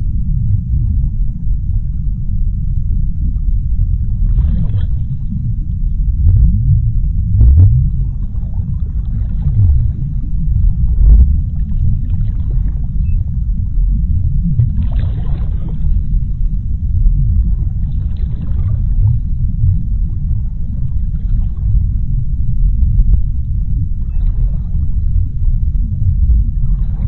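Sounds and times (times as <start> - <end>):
underwater deep rumble: 0.0 - 27.0.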